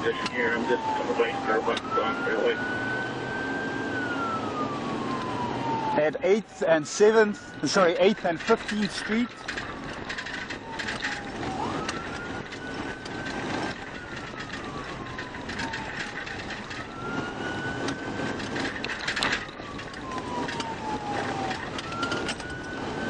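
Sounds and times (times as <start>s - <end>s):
police siren wailing: 0.0s - 23.0s
vehicle running noise: 0.0s - 23.0s.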